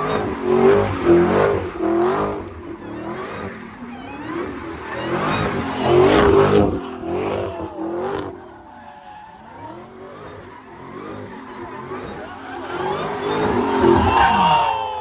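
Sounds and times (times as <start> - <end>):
vehicle engine revving: 0.0 - 8.7, 9.4 - 14.6.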